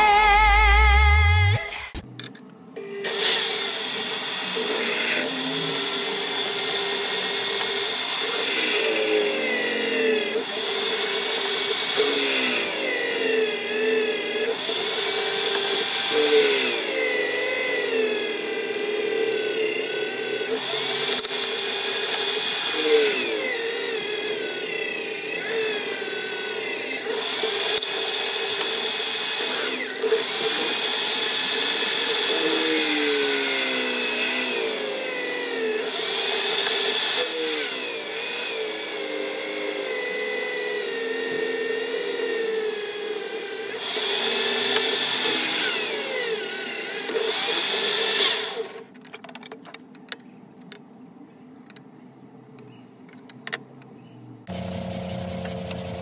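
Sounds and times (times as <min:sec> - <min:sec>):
drill press boring steel: 0:02.8 - 0:48.9.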